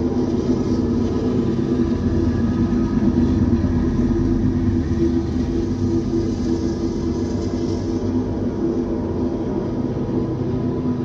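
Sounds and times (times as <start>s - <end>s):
diesel locomotive engine drone: 0.0s - 11.0s
train low rumble: 0.0s - 11.0s.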